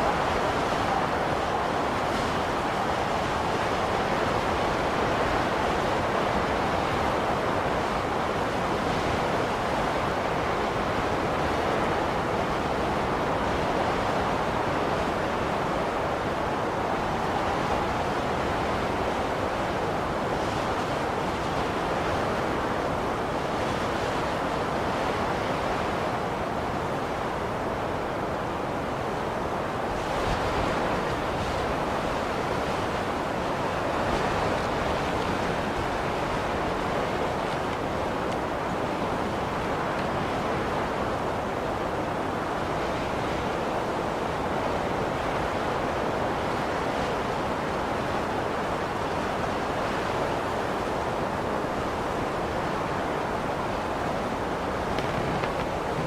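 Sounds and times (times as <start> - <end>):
blizzard wind blowing: 0.0 - 56.0.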